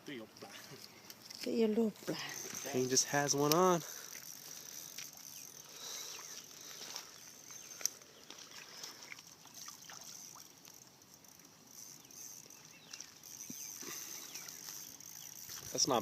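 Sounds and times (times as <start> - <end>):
faint high hiss: 0.0 - 16.0.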